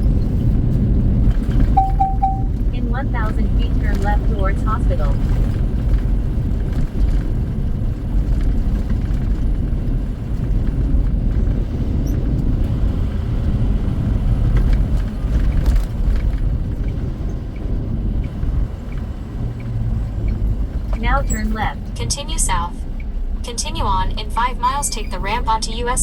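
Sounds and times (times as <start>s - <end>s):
truck engine and road rumble: 0.0s - 26.0s
turn signal ticking: 0.7s - 8.8s, 9.5s - 26.0s.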